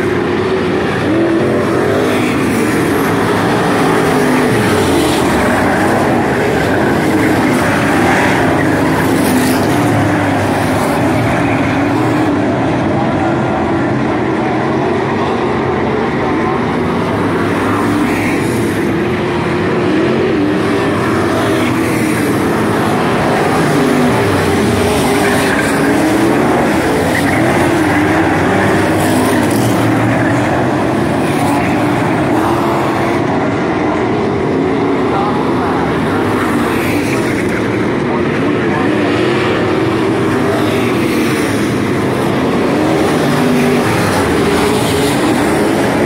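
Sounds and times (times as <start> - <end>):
race car engines: 0.0 - 46.0.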